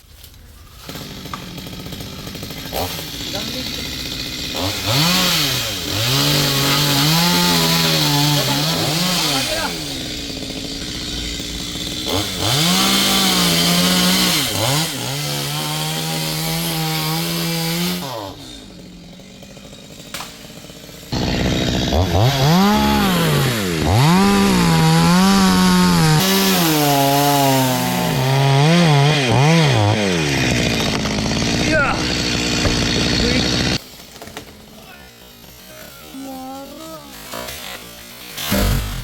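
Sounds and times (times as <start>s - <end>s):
chainsaw cutting wood: 0.8s - 39.0s.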